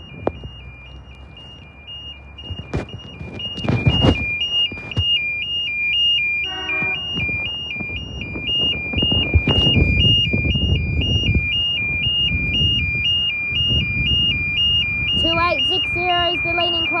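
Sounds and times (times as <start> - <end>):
level crossing warning alarm: 0.0 - 17.0.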